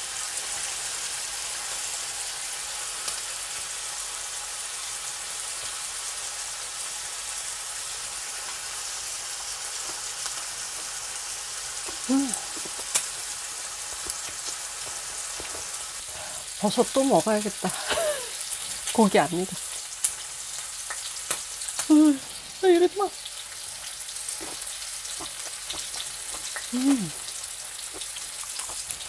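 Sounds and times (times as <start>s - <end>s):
meat sizzling on grill pan: 0.0s - 29.0s.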